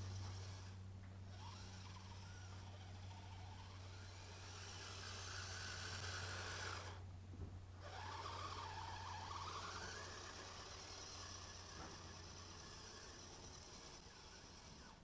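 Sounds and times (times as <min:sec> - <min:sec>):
electric motor whine: 0:00.0 - 0:07.1, 0:07.7 - 0:15.0.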